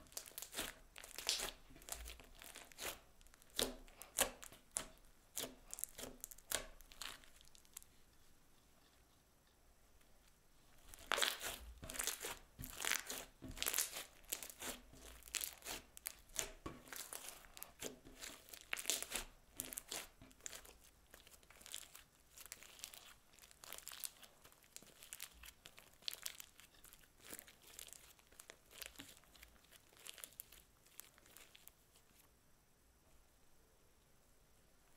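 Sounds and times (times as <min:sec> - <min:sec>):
crunchy slime crackling: 0:00.0 - 0:08.0, 0:10.8 - 0:32.3.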